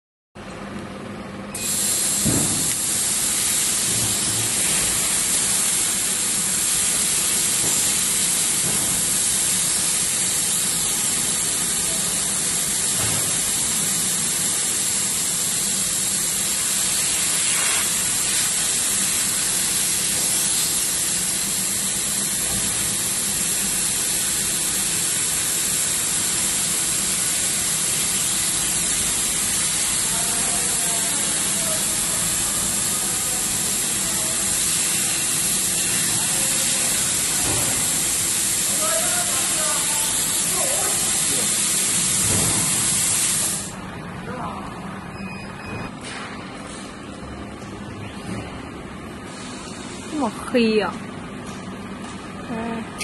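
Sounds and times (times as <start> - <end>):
laser cutter air hiss: 1.5 - 43.8, 49.2 - 50.8.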